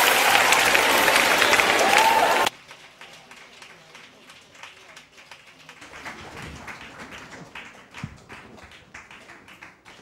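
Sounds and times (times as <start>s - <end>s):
audience applause: 0.0s - 10.0s.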